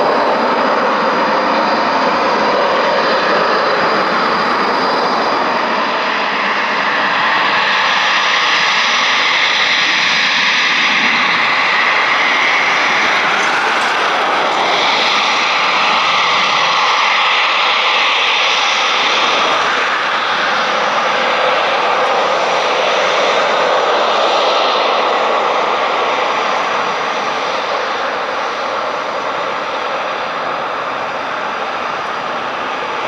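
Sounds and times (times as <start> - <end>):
jet engines running loud: 0.0 - 33.0.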